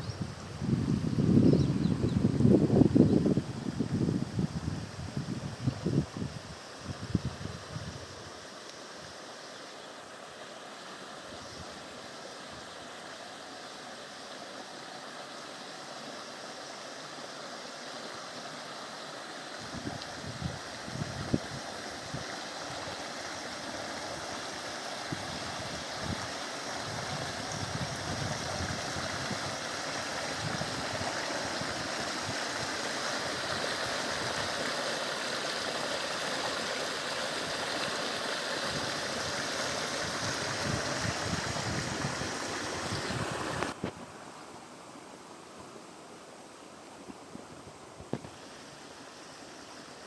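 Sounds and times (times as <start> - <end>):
stream rushing over rocks: 0.0 - 47.1.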